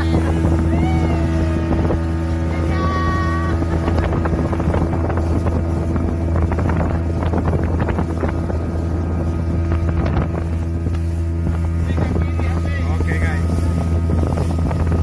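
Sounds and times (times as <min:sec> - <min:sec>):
outboard motor droning: 0:00.0 - 0:15.0
water splashing against hull: 0:00.0 - 0:15.0
wind buffeting microphone: 0:00.0 - 0:15.0.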